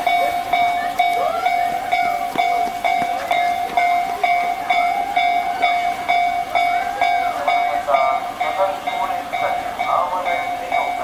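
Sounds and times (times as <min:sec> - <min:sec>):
crossing warning bell clanging: 0:00.0 - 0:11.0.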